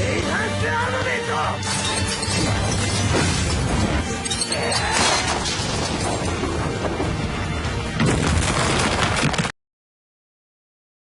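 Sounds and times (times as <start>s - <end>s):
dramatic music: 0.0s - 9.1s.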